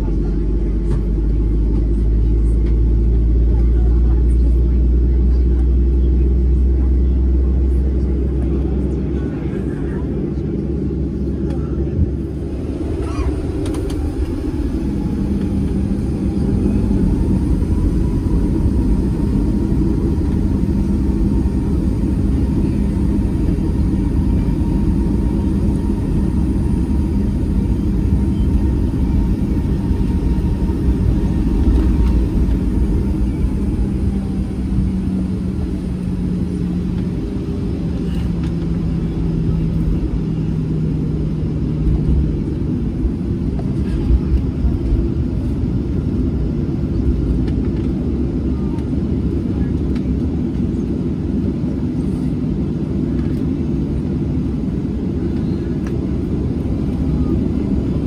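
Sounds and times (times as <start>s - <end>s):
jet engine low rumble in cabin: 0.0s - 58.0s.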